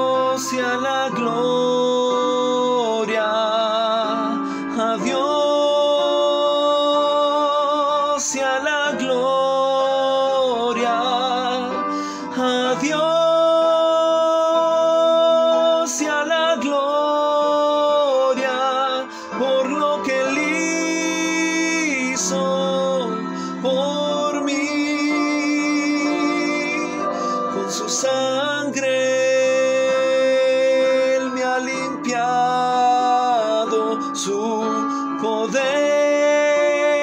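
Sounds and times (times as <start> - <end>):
instrumental backing: 0.0 - 37.0
man singing with vibrato: 0.0 - 37.0.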